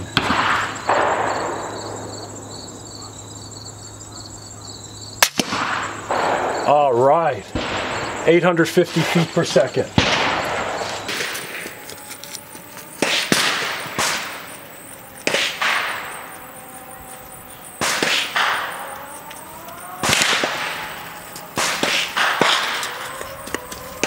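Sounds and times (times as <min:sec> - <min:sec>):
gunshots with echo: 0:00.0 - 0:02.3, 0:05.2 - 0:24.0.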